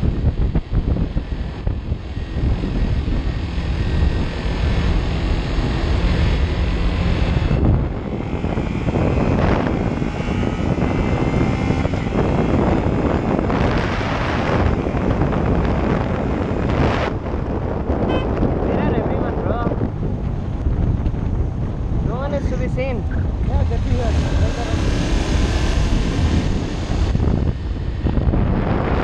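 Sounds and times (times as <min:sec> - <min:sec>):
motorcycle engine running: 0:00.0 - 0:29.0
wind rushing over microphone: 0:00.0 - 0:29.0.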